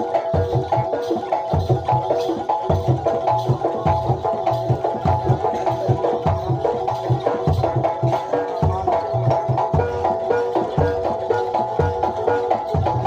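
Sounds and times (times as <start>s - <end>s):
drums beating steady rhythm: 0.0s - 13.0s.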